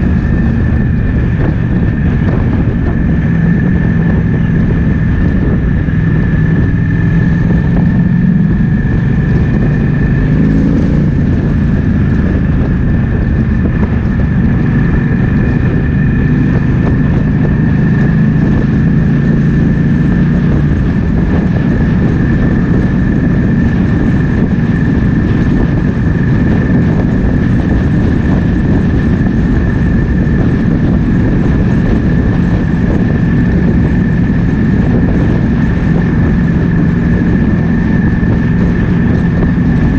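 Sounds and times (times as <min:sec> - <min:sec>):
motorcycle engine running: 0:00.0 - 0:39.9
steady high whine: 0:00.0 - 0:39.9
wind buffeting microphone: 0:00.0 - 0:39.9.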